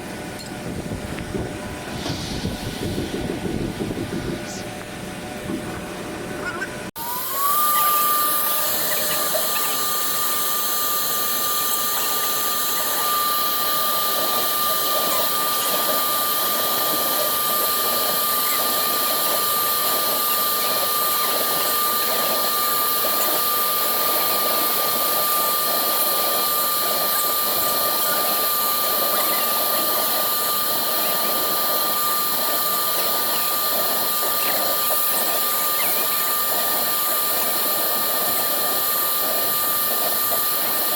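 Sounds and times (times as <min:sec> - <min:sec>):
hiss of cutting: 0:01.9 - 0:03.5, 0:07.0 - 0:40.9
router spindle whining: 0:05.5 - 0:40.9.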